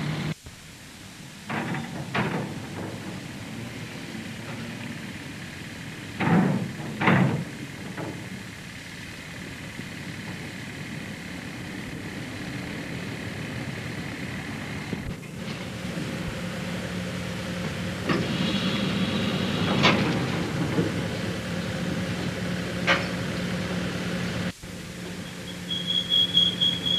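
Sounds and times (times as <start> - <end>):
vehicle engine: 0.0 - 0.4, 1.5 - 26.9
ferry machinery humming: 0.0 - 26.9.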